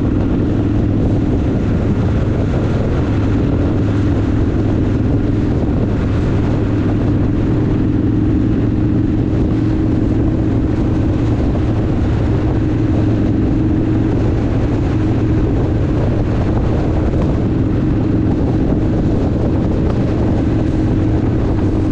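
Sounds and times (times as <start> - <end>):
motorcycle engine cruising: 0.0 - 21.9
wind and road noise: 0.0 - 21.9.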